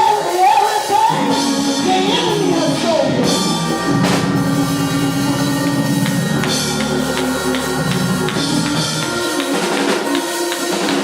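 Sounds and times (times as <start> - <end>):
drum kit steady beat: 0.0 - 11.0
live band music: 0.0 - 11.0
low bass notes: 0.0 - 11.0.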